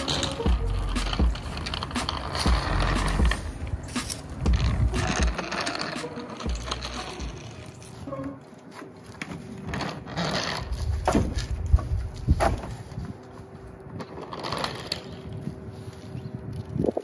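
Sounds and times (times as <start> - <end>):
dolly rumbling over asphalt: 0.0 - 17.0.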